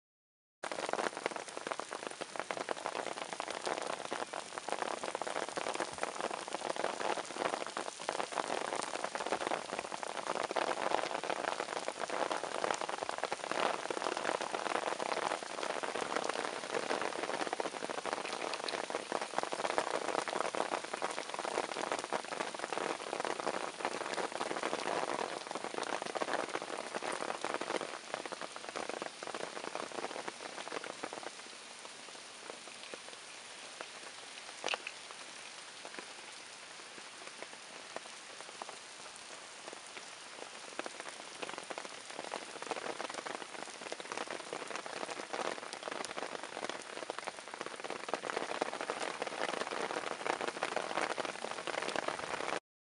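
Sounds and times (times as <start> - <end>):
steady rain falling: 0.6 - 52.6.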